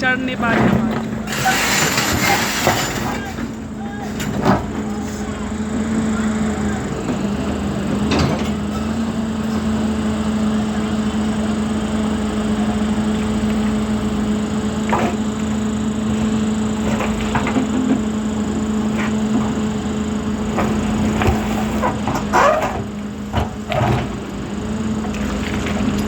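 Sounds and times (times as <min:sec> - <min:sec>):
excavator engine and hydraulics: 0:00.0 - 0:26.0.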